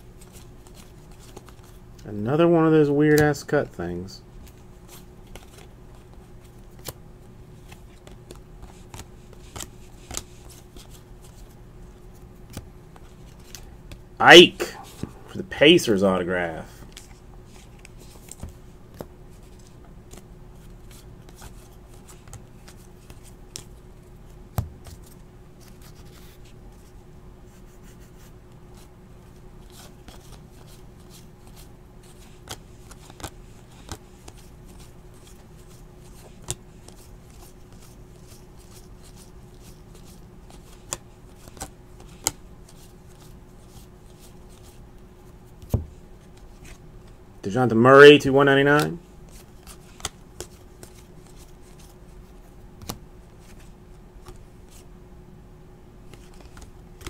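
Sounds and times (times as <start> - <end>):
cards shuffling: 0.1 - 2.0, 4.4 - 7.0, 7.6 - 27.0, 27.6 - 47.2, 48.1 - 54.9, 56.0 - 57.0.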